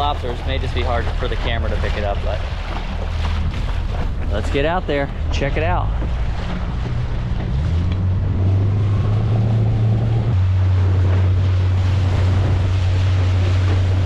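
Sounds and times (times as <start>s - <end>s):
outboard motor droning: 0.0s - 14.0s
water rushing along hull: 0.0s - 14.0s
wind buffeting microphone: 0.0s - 14.0s.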